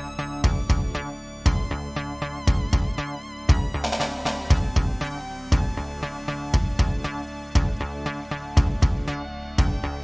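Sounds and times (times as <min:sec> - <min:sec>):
synthesizer music with drum beat: 0:00.0 - 0:10.0.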